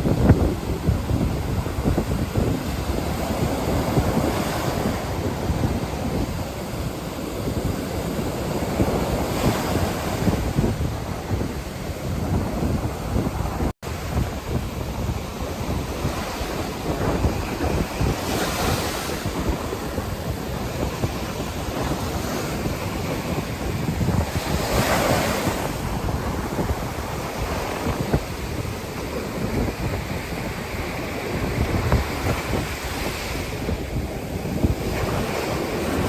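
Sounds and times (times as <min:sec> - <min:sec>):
ocean surf breaking on beach: 0:00.0 - 0:36.0
wind buffeting microphone: 0:00.0 - 0:36.0.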